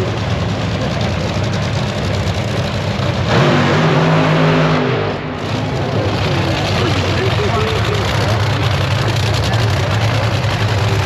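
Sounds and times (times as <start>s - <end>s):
dragster engines running: 0.0s - 11.0s.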